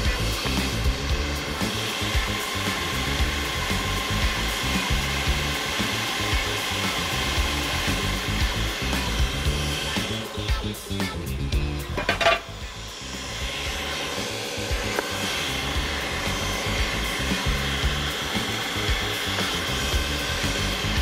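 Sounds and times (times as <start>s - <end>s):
food processor motor whining: 0.0s - 21.0s.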